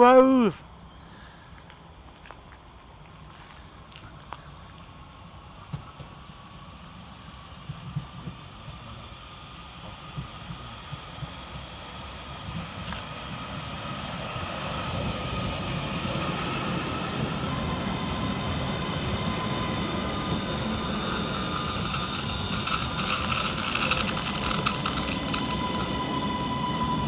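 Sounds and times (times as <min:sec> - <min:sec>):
electric train passing: 0:01.6 - 0:27.0.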